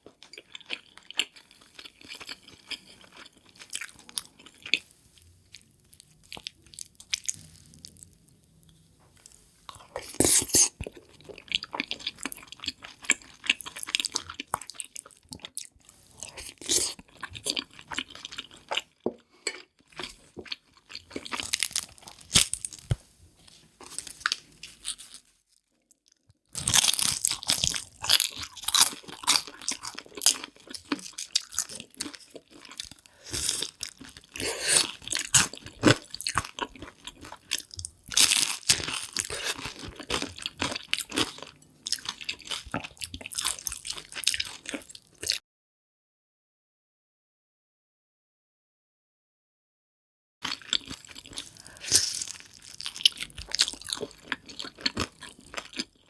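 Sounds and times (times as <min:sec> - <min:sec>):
crunching and chewing crisp food: 0:00.0 - 0:45.4, 0:50.4 - 0:56.0.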